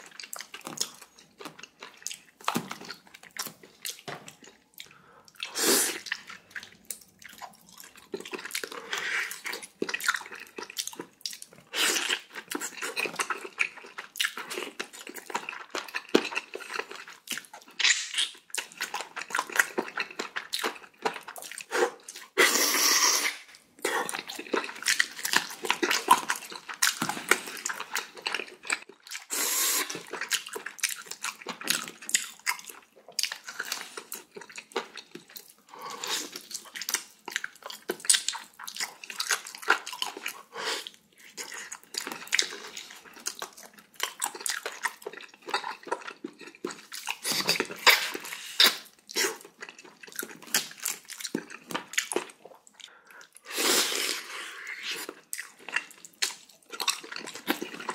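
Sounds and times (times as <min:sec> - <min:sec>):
wet chewing and slurping: 0:00.0 - 0:57.9.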